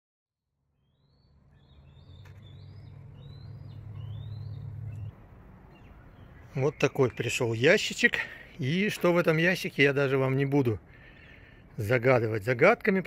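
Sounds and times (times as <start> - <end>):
birds chirping: 0.7 - 13.0.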